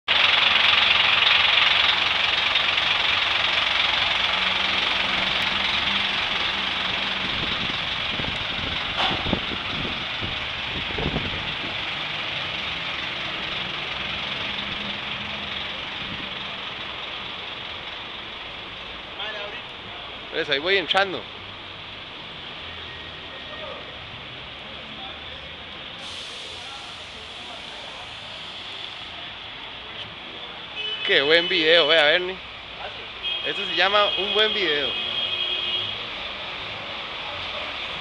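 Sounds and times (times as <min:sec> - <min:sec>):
bus diesel engine idling: 0:00.1 - 0:31.0.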